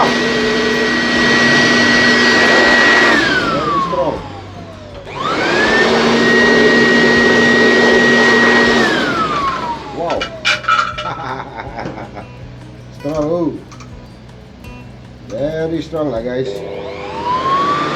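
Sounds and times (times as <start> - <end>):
blower vacuum whining: 0.0 - 17.9.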